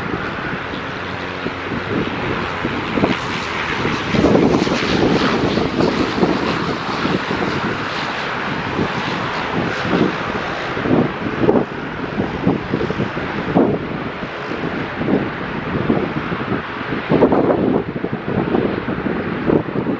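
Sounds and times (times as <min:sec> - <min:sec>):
jet engines running: 0:00.0 - 0:19.9
wind buffeting microphone: 0:00.0 - 0:19.9.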